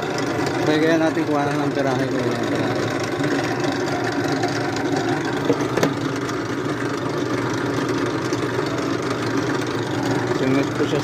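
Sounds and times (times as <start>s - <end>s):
drill press motor humming: 0.0s - 11.0s.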